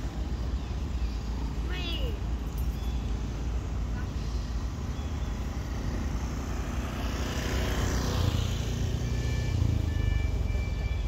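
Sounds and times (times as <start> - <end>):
passing vehicle engine rumble: 0.0 - 11.0.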